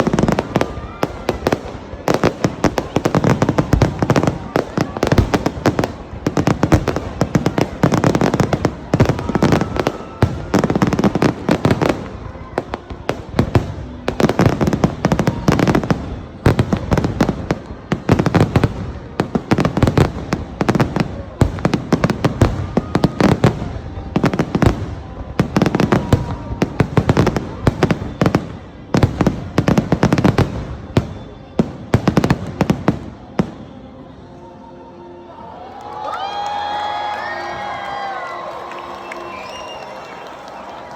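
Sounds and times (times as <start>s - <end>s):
fireworks bursting and crackling: 0.0s - 33.8s.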